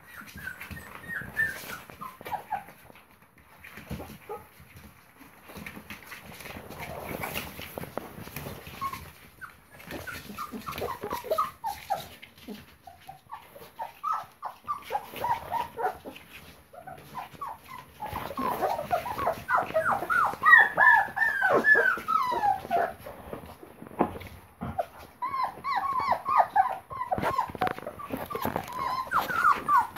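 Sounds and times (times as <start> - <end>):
puppies whimpering and squeaking: 0.0 - 29.9.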